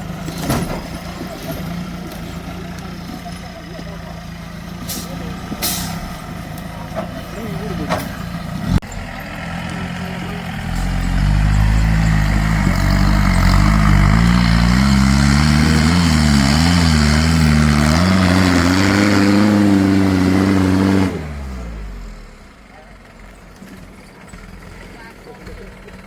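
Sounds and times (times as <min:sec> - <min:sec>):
off-road vehicle engine: 0:00.0 - 0:26.0.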